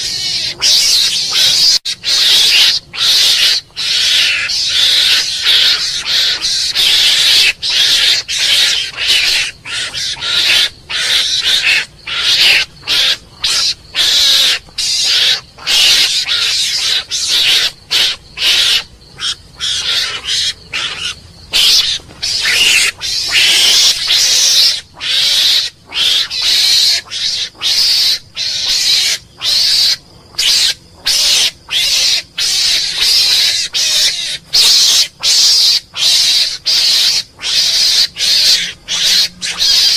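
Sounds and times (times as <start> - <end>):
mongoose harsh calls: 0.0 - 39.9.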